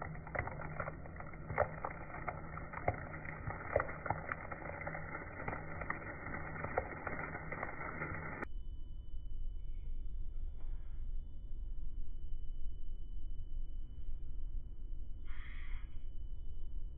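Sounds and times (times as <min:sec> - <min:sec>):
low hum: 0:00.0 - 0:15.2.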